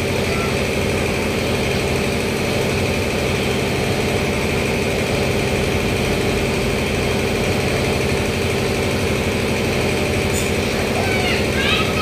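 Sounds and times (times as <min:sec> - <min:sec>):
motor humming steadily: 0:00.0 - 0:12.0.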